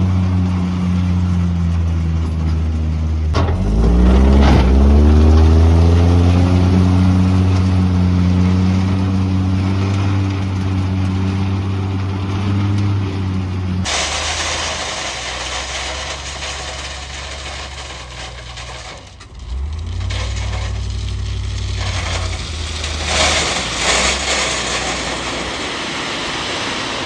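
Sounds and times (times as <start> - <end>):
gravel crunching and scraping: 0.0 - 27.0
loader engine running: 0.0 - 27.0.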